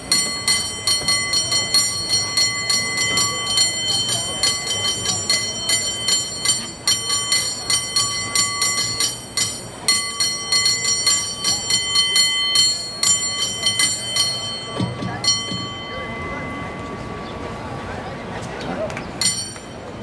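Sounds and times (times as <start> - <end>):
cable car bell ringing rapidly: 0.0 - 18.4, 19.1 - 20.0.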